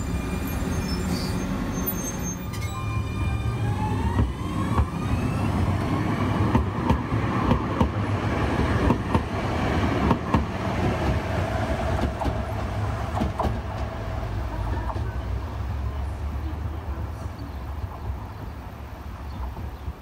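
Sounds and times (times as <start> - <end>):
tram rumble: 0.0 - 20.0
tram whine: 0.0 - 20.0.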